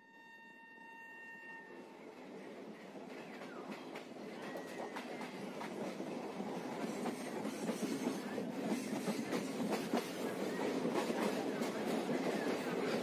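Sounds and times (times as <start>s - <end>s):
train wheels on rail: 1.9s - 13.0s.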